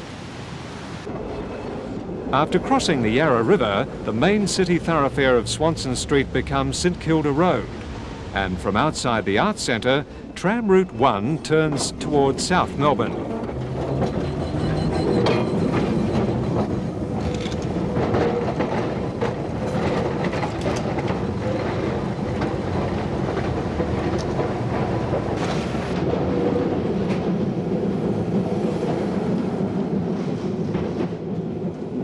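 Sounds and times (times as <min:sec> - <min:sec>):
tram wheels rumbling: 0:01.0 - 0:32.0.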